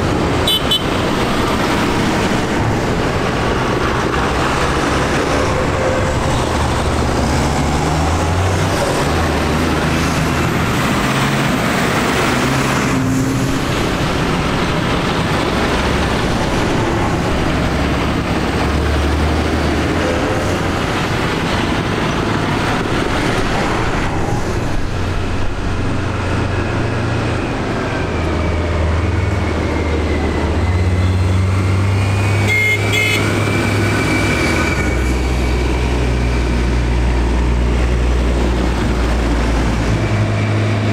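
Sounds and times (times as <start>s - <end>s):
tractor engines passing: 0.0s - 40.9s.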